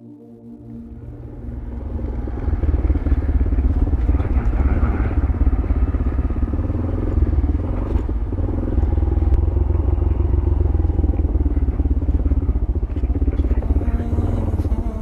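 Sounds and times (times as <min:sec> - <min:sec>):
motorcycle engine running: 0:01.0 - 0:15.0.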